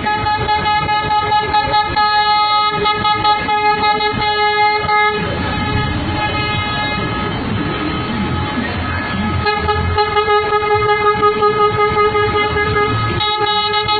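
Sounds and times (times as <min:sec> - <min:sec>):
bus air horn blast: 0:00.0 - 0:07.8, 0:09.3 - 0:13.9
low vehicle rumble: 0:00.0 - 0:13.9.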